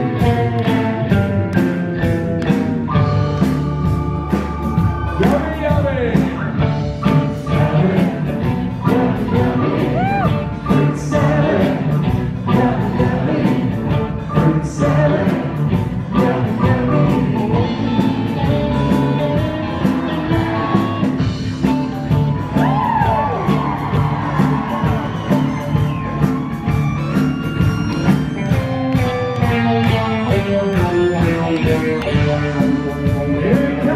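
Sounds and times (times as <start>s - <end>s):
electric guitar: 0.0s - 5.4s, 6.0s - 33.9s
drum kit beat: 0.0s - 33.9s
keyboard: 0.0s - 33.9s.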